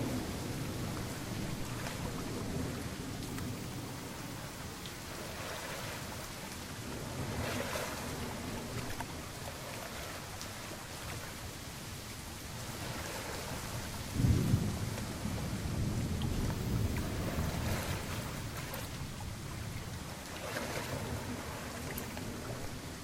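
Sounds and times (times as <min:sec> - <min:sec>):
sea waves washing: 0:00.0 - 0:23.0
wind: 0:00.0 - 0:23.0.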